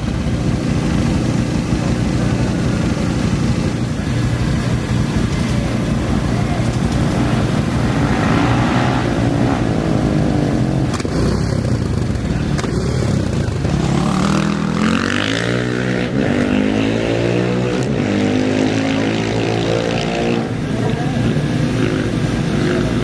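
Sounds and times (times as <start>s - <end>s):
racing engine revving: 0.0s - 23.0s.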